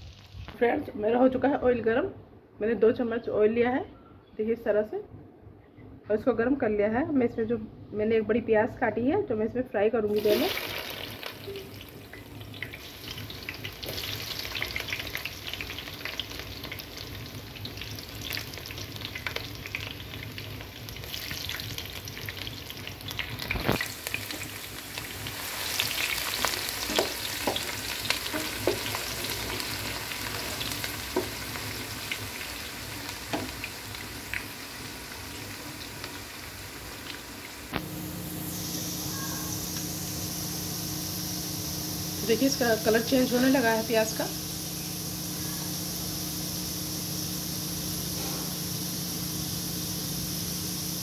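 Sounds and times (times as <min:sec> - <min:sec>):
onions sizzling in hot oil: 0:00.0 - 0:00.6, 0:10.1 - 0:51.0.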